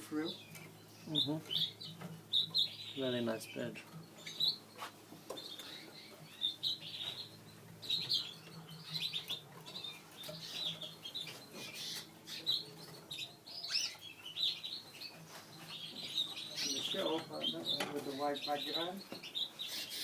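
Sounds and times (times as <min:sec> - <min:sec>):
canaries chirping: 0:00.0 - 0:20.0.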